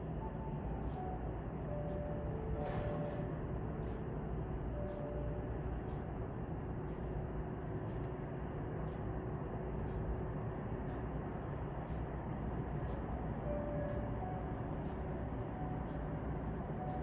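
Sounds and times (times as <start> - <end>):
low rumble of aircraft and machinery: 0.0 - 17.0.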